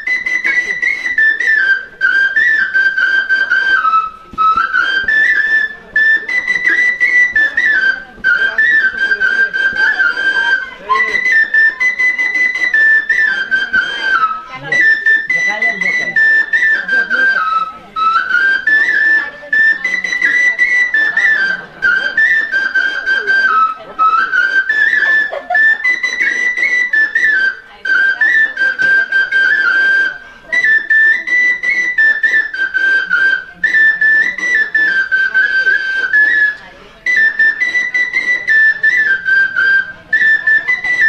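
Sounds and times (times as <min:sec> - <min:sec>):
bamboo flute melody: 0:00.0 - 0:41.0.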